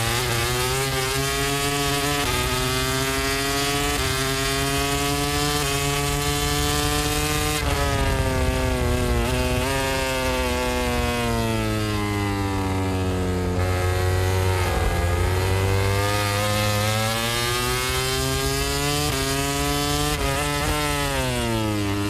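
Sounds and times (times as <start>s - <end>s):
racing motorcycle engine revving: 0.0s - 22.0s.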